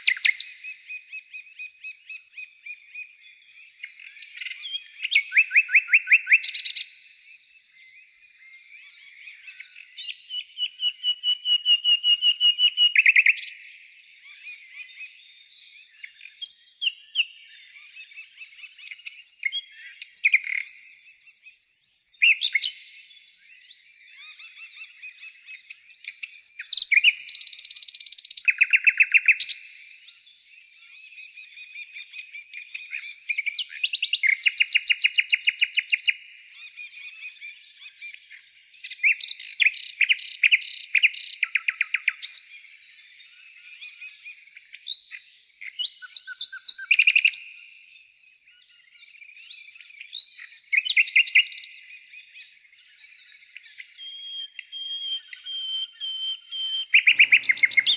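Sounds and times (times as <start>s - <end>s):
birds chirping and trilling: 0.0s - 57.9s.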